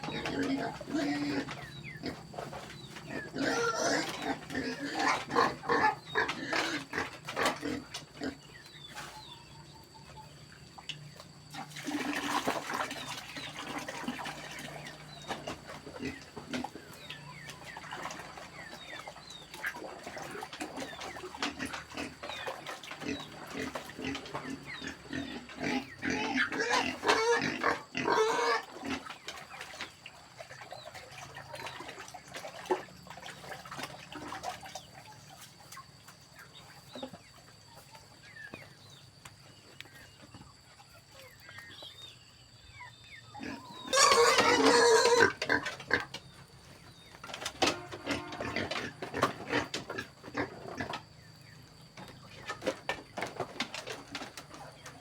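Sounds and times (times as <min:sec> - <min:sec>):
farm animals chirping calls: 0:00.0 - 0:55.0.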